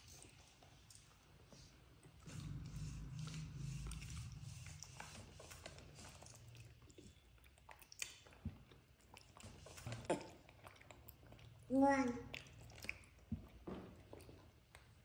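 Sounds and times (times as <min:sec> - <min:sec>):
monkey chewing and smacking: 0:02.0 - 0:15.0.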